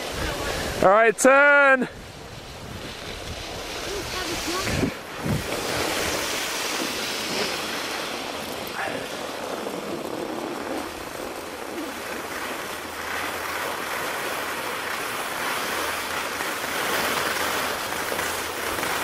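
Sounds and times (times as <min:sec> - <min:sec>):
wind buffeting microphone: 0:00.0 - 0:01.0, 0:01.6 - 0:19.0.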